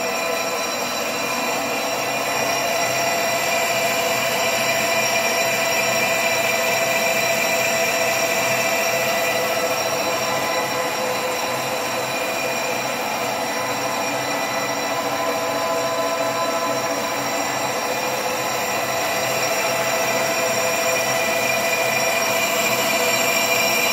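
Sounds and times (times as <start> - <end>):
metal lathe whining: 0.0 - 23.9.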